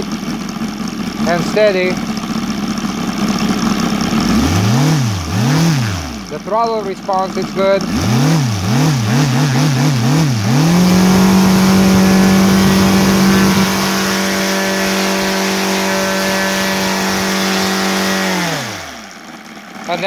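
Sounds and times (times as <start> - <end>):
model engine revving: 1.1 - 20.0.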